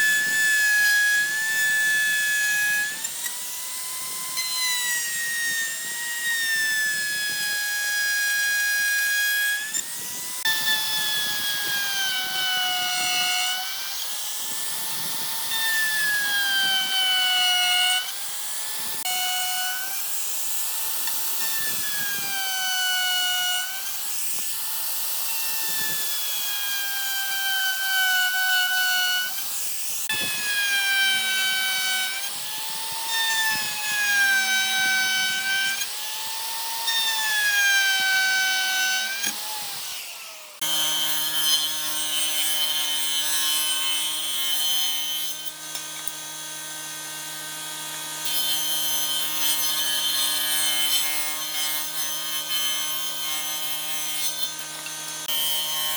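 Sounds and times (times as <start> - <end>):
power tool cutting wood: 0.0 - 55.9.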